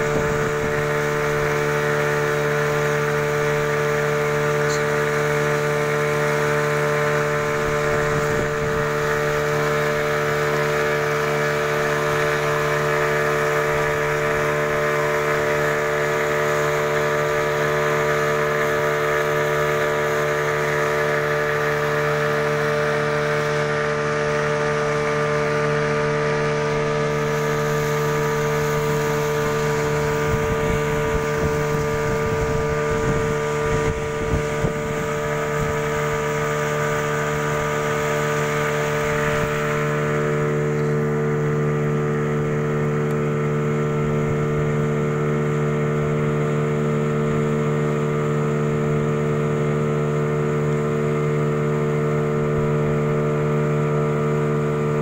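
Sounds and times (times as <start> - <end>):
water hissing past hull: 0.0 - 54.9
outboard motor running: 0.0 - 55.0.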